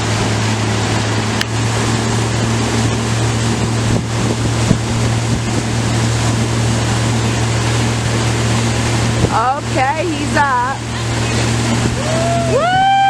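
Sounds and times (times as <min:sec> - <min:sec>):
wind noise on microphone: 0:00.0 - 0:09.8, 0:11.1 - 0:13.0
motorboat engine running: 0:00.0 - 0:13.0
water rushing past hull: 0:00.0 - 0:13.0.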